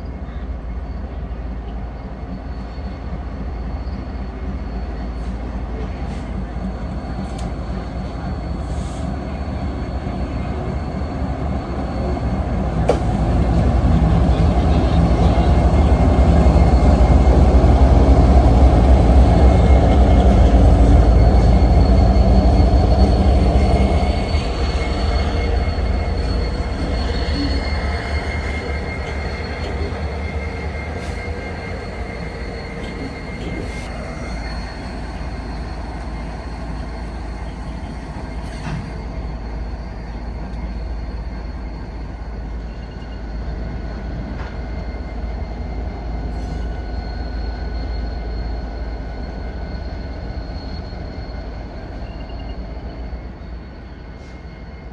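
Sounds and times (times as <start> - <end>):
diesel locomotive rumble: 0.0 - 52.0
train wheel squeal: 0.0 - 54.9.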